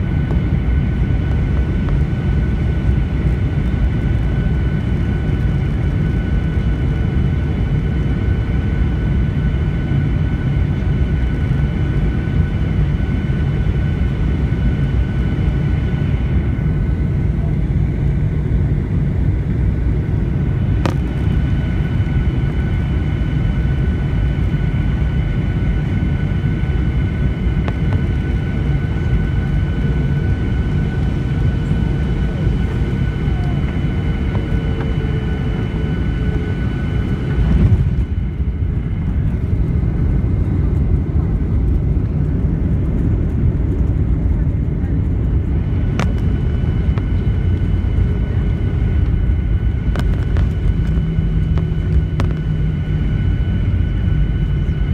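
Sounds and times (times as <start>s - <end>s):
high engine whine: 0.0s - 54.9s
jet engine and airflow rumble: 0.0s - 54.9s.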